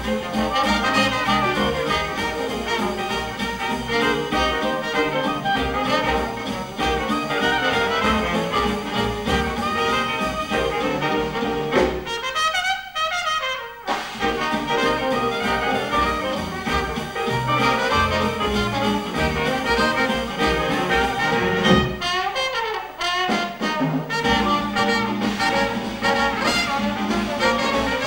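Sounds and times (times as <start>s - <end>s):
jazz band playing: 0.0s - 28.0s
solo horn break: 0.0s - 28.0s.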